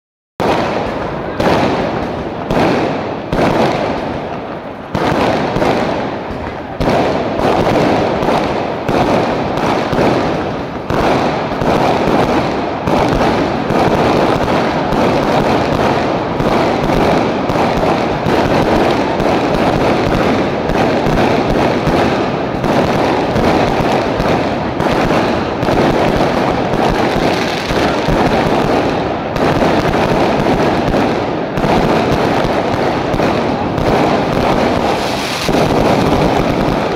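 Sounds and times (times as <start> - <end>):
fireworks bangs and crackles: 0.4 - 36.9.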